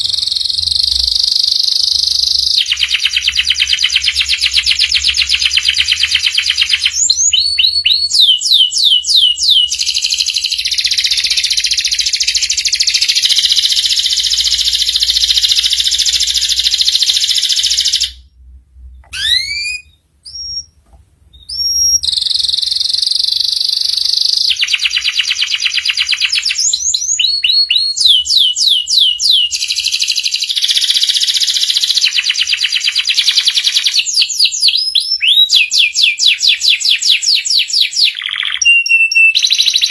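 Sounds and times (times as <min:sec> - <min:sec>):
canary singing trills and whistles: 0:00.0 - 0:18.2, 0:19.0 - 0:39.9.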